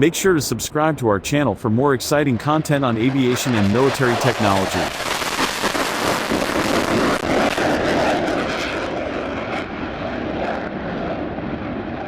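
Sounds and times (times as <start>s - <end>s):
jet aircraft engine rush: 1.9s - 12.0s.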